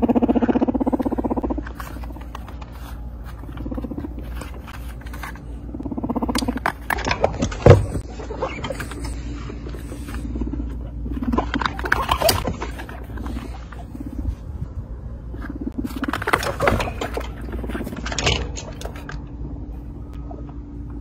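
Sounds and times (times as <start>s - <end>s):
guinea pigs rumbling: 0.0s - 21.0s.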